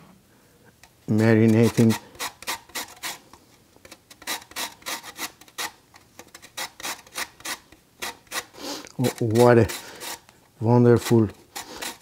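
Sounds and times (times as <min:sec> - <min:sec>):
lemon rind rasping on grater: 0:01.1 - 0:03.2, 0:03.8 - 0:10.2, 0:10.8 - 0:12.0.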